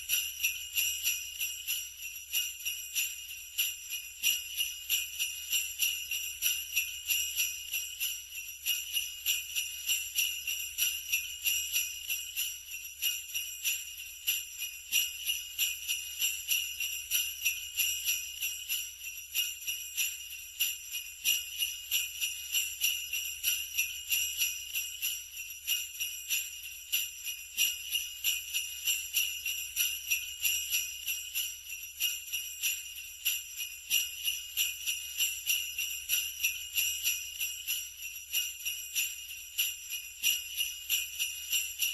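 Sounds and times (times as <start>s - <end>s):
sleigh bells jingling: 0.0s - 41.9s.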